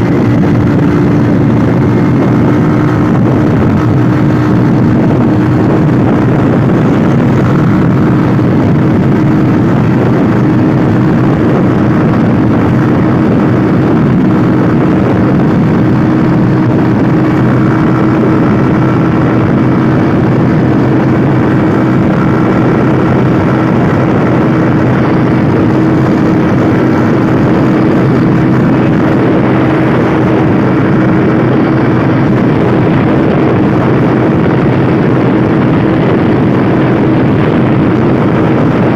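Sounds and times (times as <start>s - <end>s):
motorcycle engine at steady speed: 0.0s - 38.9s
rushing wind noise: 0.0s - 38.9s.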